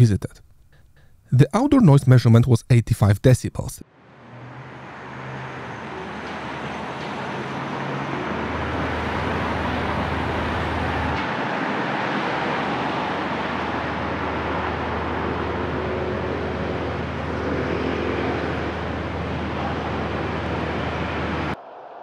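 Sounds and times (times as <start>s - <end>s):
passing cars: 3.8s - 22.0s.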